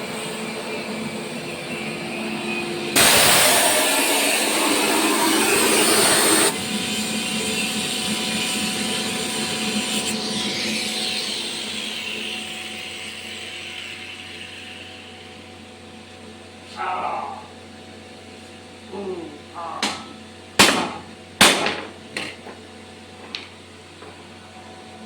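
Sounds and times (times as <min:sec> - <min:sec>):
machine hum with held tones: 0:00.0 - 0:20.6.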